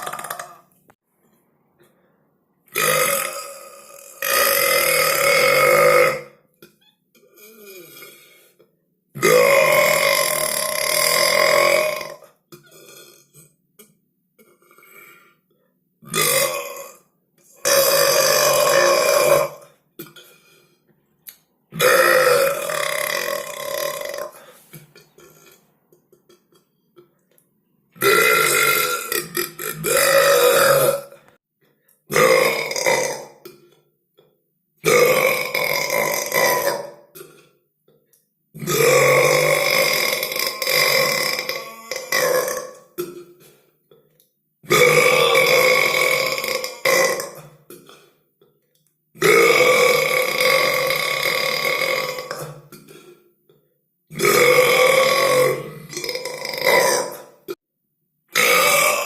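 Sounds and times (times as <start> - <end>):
loud drawn-out human burps: 0.0 - 0.7, 2.7 - 6.6, 7.2 - 15.4, 16.0 - 20.8, 21.7 - 27.2, 28.0 - 31.4, 32.0 - 48.6, 49.2 - 57.6, 58.3 - 59.0.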